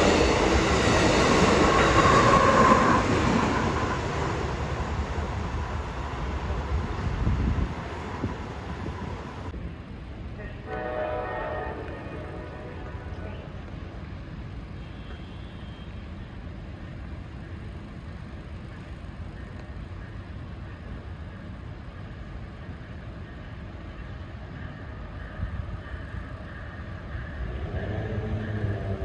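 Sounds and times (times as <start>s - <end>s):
high rail tone: 0.0s - 29.0s
train rumbling: 0.0s - 29.0s.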